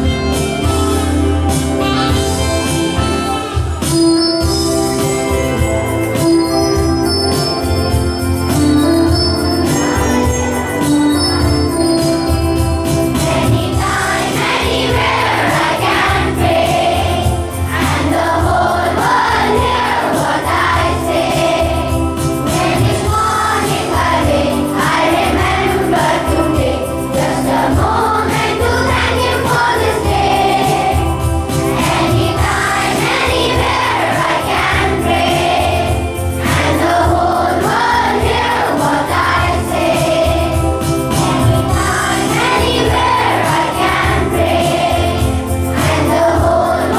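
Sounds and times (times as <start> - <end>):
electronic keyboard: 0.0 - 46.9
children singing: 4.9 - 46.9.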